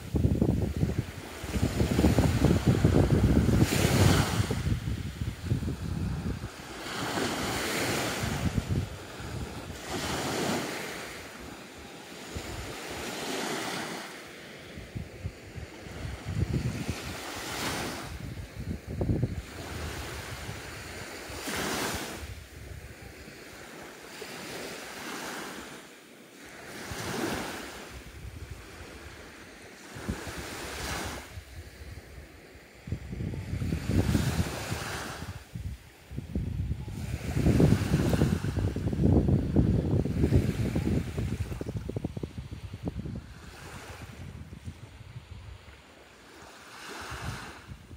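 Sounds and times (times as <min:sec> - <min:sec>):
wind rumbling on microphone: 0:00.0 - 0:11.6, 0:12.2 - 0:14.1, 0:14.7 - 0:23.6, 0:26.8 - 0:47.9
small waves breaking on beach: 0:00.0 - 0:47.9.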